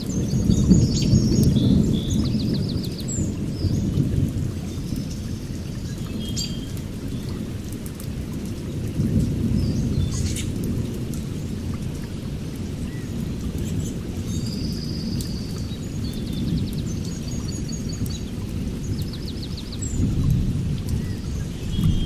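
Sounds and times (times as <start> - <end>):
rainstorm rumble: 0.0 - 22.0.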